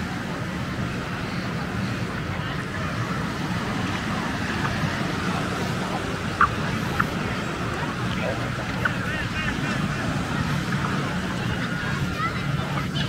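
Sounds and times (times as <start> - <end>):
murmur of distant voices: 0.0 - 13.0
ocean waves washing ashore: 0.0 - 13.0.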